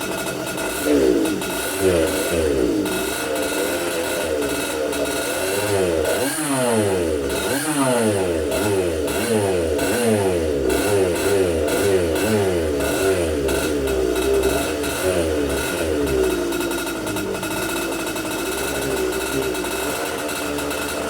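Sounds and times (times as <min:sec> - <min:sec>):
kart engine revving: 0:00.0 - 0:21.0.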